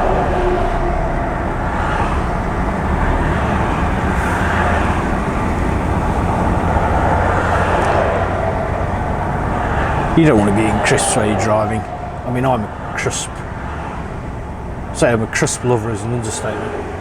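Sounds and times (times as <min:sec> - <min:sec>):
lorry diesel engine drone: 0:00.0 - 0:17.0.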